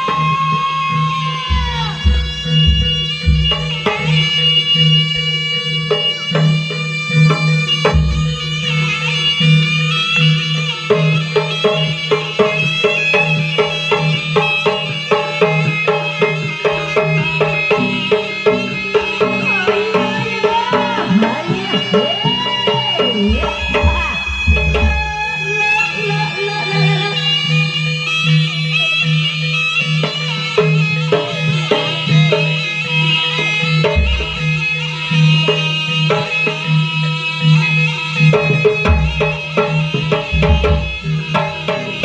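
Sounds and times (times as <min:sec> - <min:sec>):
drums and gamelan percussion: 0:00.0 - 0:42.0
reedy wind instrument melody: 0:00.0 - 0:42.0.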